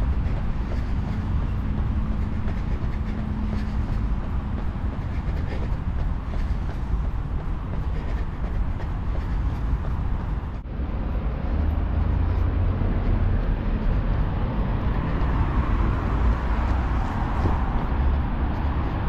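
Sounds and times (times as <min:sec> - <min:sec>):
noisy wash: 0:00.0 - 0:19.0
steady low city rumble: 0:00.0 - 0:19.0.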